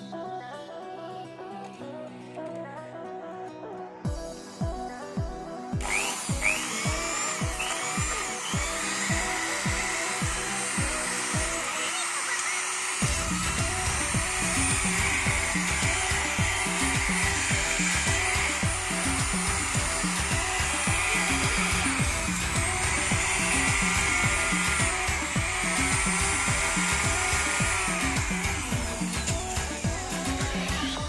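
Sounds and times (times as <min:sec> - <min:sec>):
background music with steady beat: 0:00.0 - 0:31.0
router motor whining: 0:05.8 - 0:31.0.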